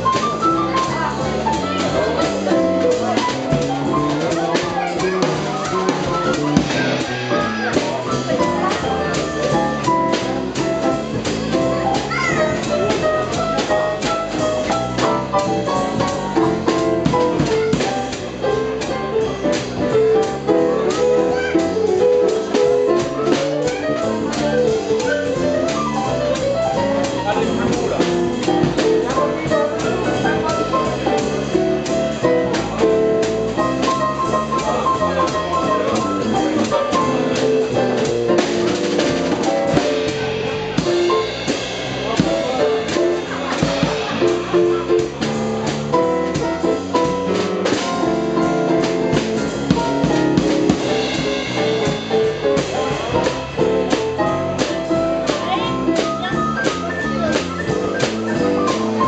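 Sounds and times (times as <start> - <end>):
drum kit with cymbals: 0.0 - 59.0
electric bass guitar: 0.0 - 59.0
piano: 0.0 - 59.0.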